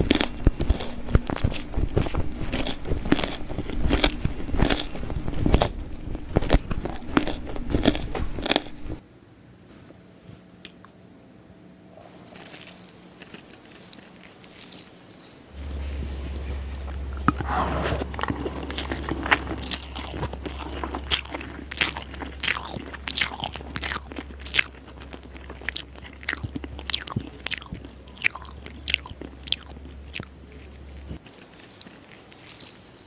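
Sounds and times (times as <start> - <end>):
close chewing: 0.0 - 9.0, 12.0 - 33.0.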